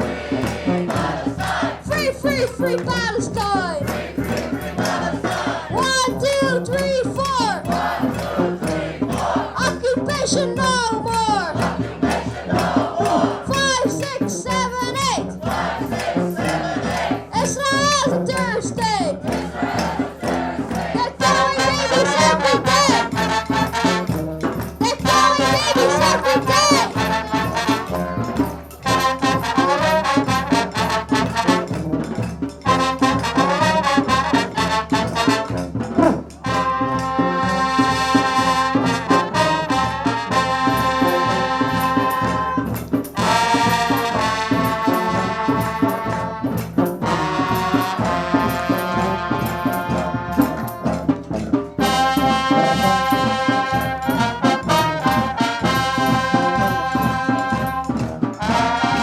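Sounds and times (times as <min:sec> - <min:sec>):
brass instruments holding notes: 0:00.0 - 0:59.0
rapid drumming and banging: 0:00.0 - 0:59.0.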